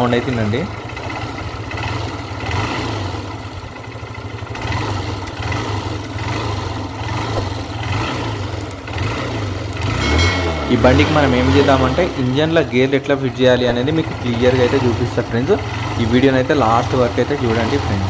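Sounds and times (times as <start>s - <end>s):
rattling engine knock: 0.0s - 10.1s, 11.4s - 18.0s
motorcycle engine running: 0.0s - 18.0s.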